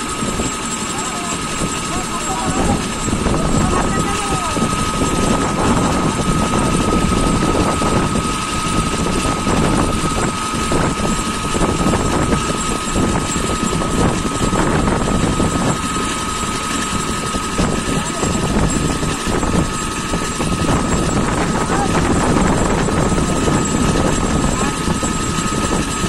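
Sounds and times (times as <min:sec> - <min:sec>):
small engine chugging at idle: 0:00.0 - 0:26.0.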